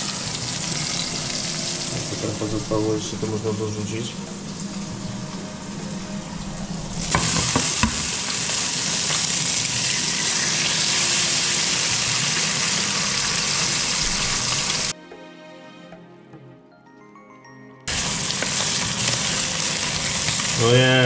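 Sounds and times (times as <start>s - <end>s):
egg sizzling in a pan: 0.0s - 3.2s, 4.1s - 14.9s, 17.9s - 21.0s.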